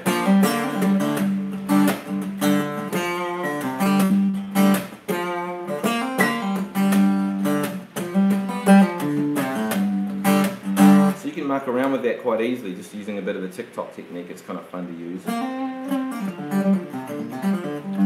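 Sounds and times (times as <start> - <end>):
acoustic guitar strumming: 0.0 - 12.0, 15.2 - 18.0.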